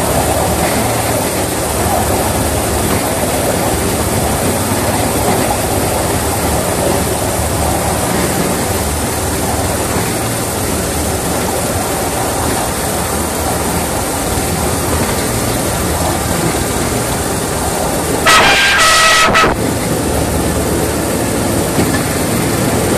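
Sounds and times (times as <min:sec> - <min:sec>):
train wheels rumbling on rails: 0:00.0 - 0:22.9.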